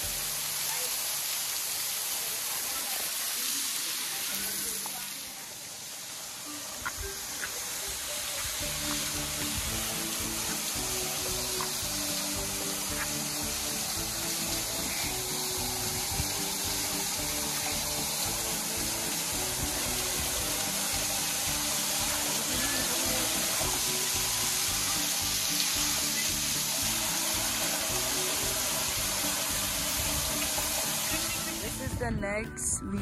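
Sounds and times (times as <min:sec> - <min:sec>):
waterfall rushing: 0:00.0 - 0:31.9
background music with held notes: 0:06.0 - 0:33.0.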